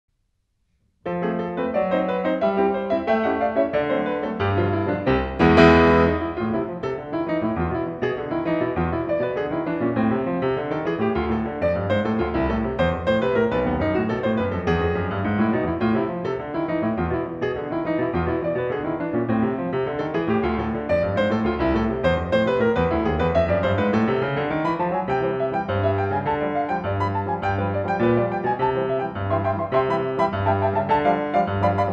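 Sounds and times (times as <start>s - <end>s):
solo piano music: 1.0s - 31.9s.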